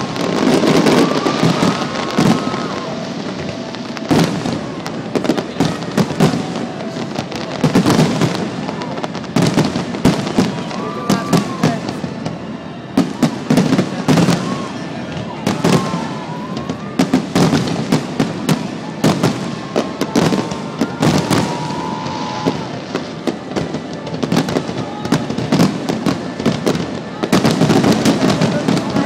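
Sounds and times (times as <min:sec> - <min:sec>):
fireworks banging: 0:00.0 - 0:29.0
fireworks crackling: 0:00.0 - 0:29.0.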